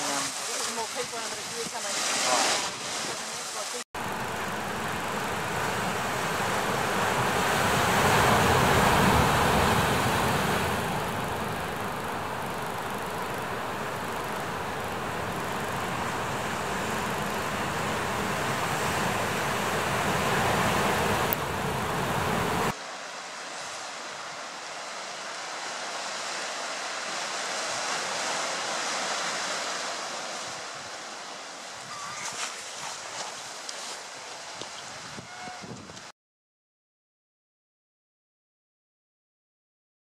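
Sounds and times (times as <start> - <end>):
surf: 0.0 - 36.1
wind: 0.0 - 36.1.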